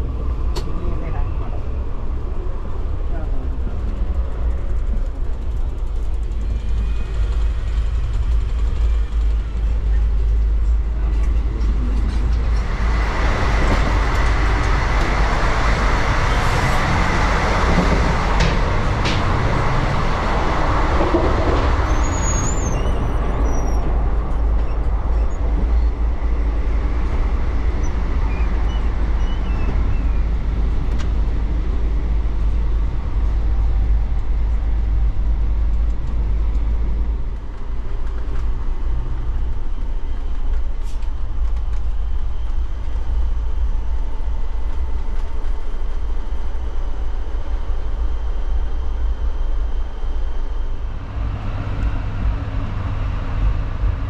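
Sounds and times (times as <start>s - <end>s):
train running low rumble: 0.0s - 54.0s.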